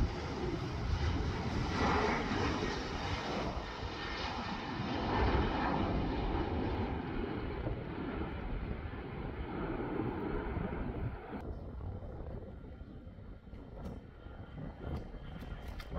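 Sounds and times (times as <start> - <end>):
jet airliner roar at takeoff: 0.0 - 15.9.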